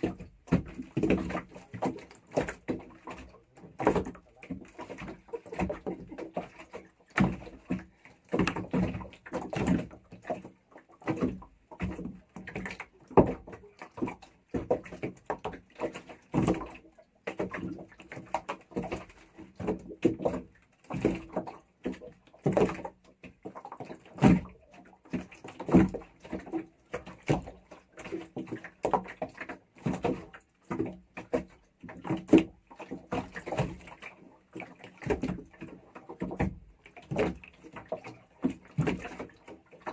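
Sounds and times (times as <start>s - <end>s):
wooden boat knocking and creaking: 0.0s - 39.9s.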